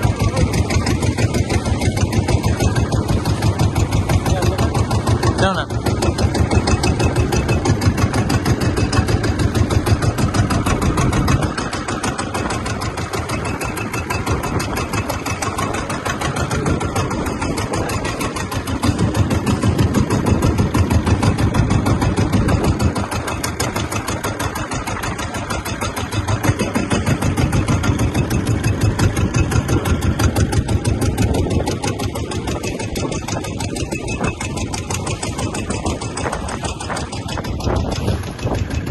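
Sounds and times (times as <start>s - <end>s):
engine running with pulsing beat: 0.0s - 38.9s.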